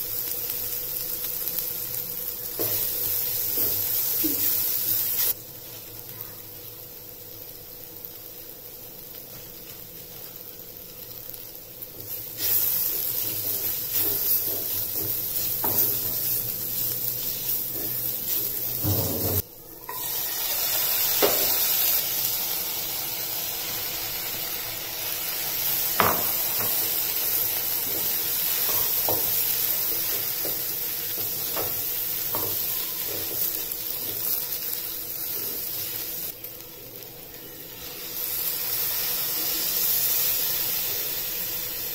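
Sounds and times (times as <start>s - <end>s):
masala sizzling: 0.0s - 41.9s.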